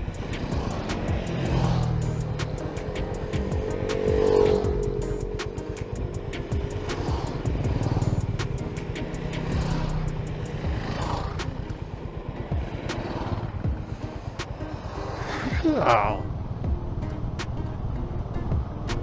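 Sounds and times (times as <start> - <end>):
background music: 0.0 - 19.0
motorcycle engine revving: 0.0 - 19.0.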